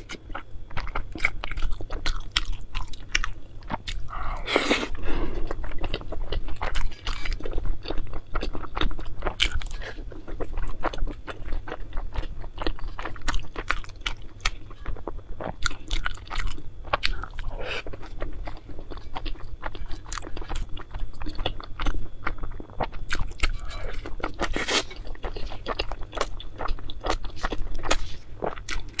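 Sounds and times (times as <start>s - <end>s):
chewing and crunching dumplings: 0.0s - 29.0s.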